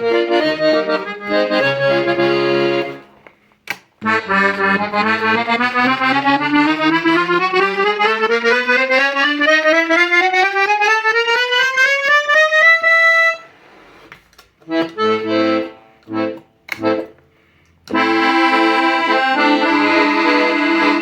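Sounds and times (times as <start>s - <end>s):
accordion rising run of notes: 0.0s - 3.2s, 4.0s - 14.0s, 14.7s - 17.1s, 17.9s - 21.0s
accordion short chords: 0.0s - 3.2s, 4.0s - 13.6s, 14.6s - 21.0s.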